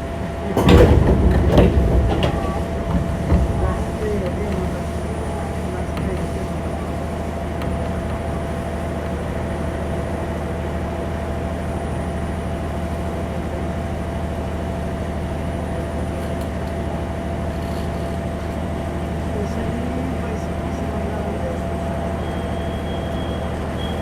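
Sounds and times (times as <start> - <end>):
electric train running: 0.0 - 24.0.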